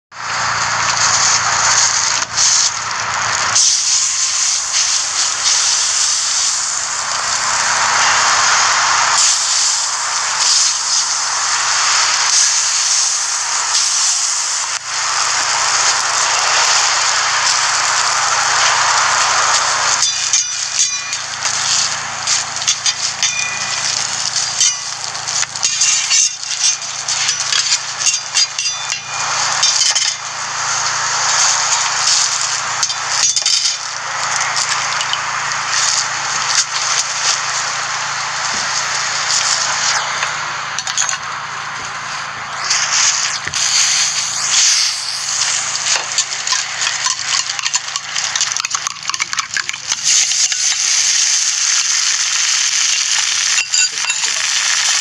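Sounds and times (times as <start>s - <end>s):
butter sizzling on a griddle: 0.2s - 55.0s.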